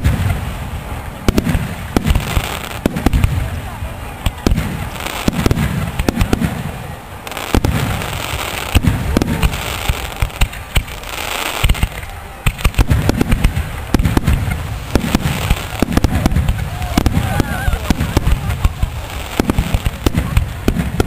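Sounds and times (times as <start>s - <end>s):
low firework booms: 0.0s - 11.0s, 11.6s - 21.0s
fireworks bangs and crackles: 0.0s - 21.0s.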